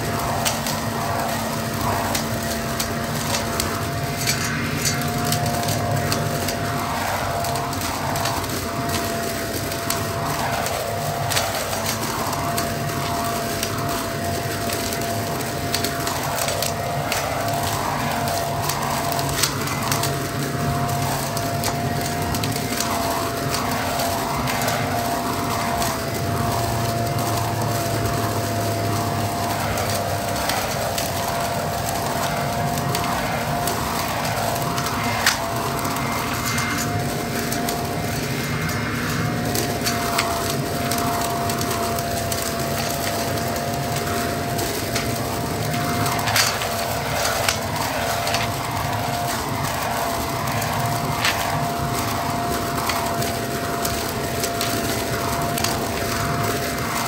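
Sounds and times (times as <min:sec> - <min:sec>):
leaf blower vacuum motor whining: 0:00.0 - 0:57.0
leaves and sticks crackling: 0:00.0 - 0:57.0.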